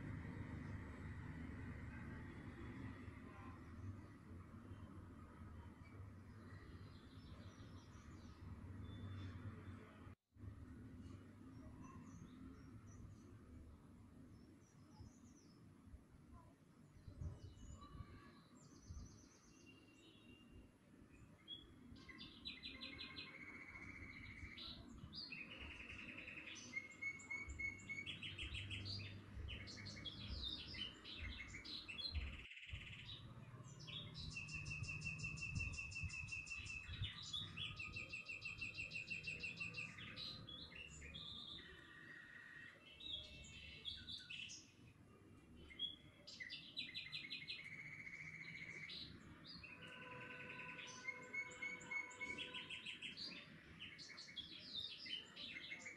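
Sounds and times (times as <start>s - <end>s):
small birds chirping and singing: 0.0s - 10.2s, 11.0s - 55.9s
faint low background noise: 0.0s - 55.9s.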